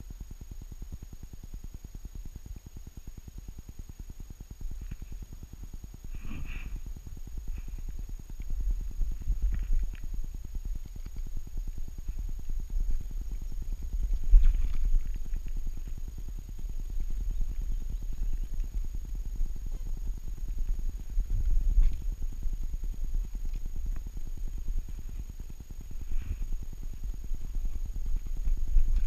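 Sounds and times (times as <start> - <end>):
rustles: 4.5 - 29.0.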